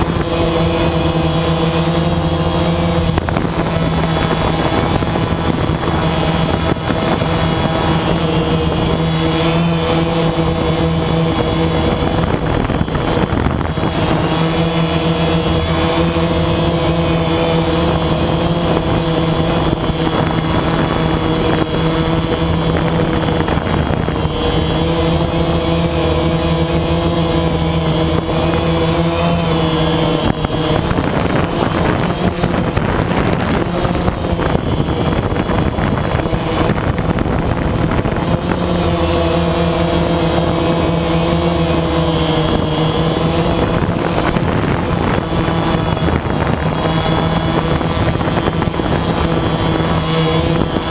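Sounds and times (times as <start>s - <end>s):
rough noisy rush: 0.0s - 50.9s.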